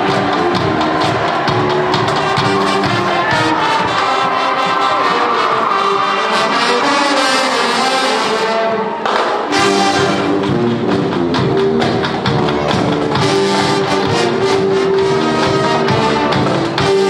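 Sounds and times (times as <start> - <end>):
pep band playing brass: 0.0 - 17.0.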